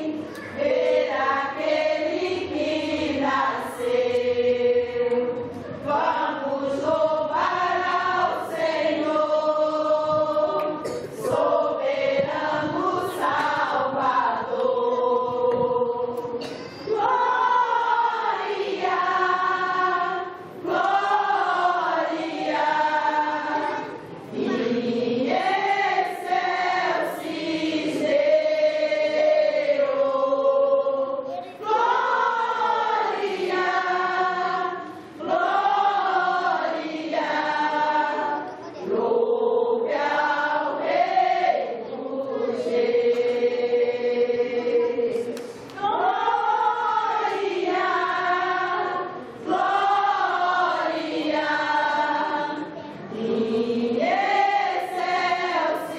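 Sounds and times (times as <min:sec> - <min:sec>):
choir singing held phrases: 0:00.0 - 0:55.9.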